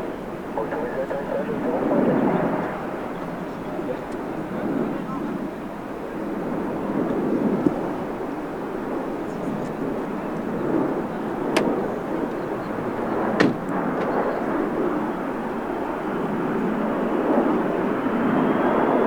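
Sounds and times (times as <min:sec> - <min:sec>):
turboprop engines rumbling: 0:00.0 - 0:19.0.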